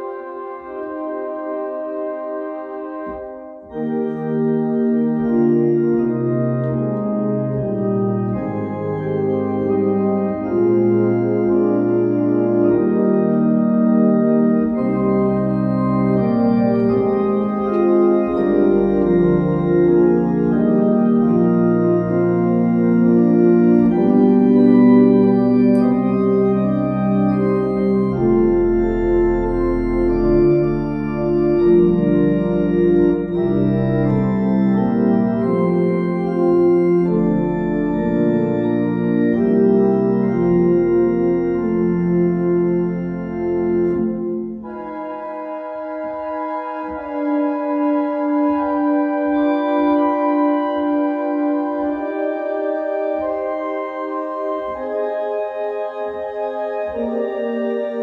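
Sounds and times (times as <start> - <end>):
deep organ pedal note: 0.0 - 58.0
organ playing sustained chords: 0.0 - 58.0.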